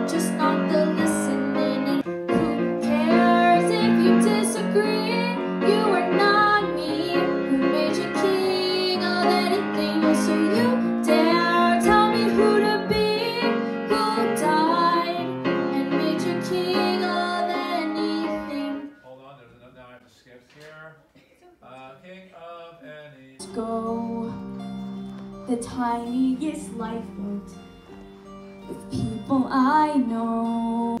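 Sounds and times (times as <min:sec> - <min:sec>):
girl singing into microphone: 0:00.0 - 0:18.9, 0:23.4 - 0:24.7, 0:25.3 - 0:27.8, 0:28.6 - 0:31.0
instrumental backing music: 0:00.0 - 0:19.7, 0:23.4 - 0:31.0.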